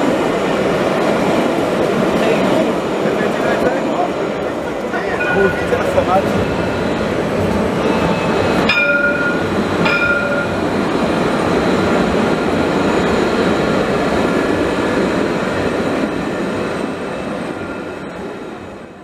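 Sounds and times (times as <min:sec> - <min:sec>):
trams rumbling past: 0:00.0 - 0:19.0.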